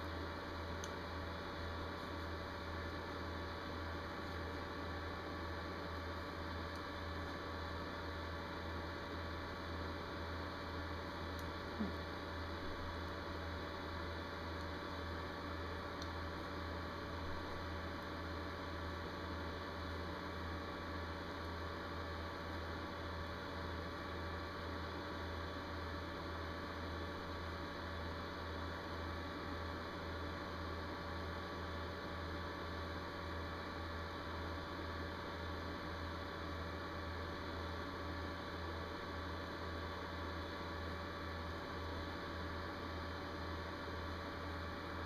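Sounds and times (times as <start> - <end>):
low electrical hum: 0.0 - 45.0.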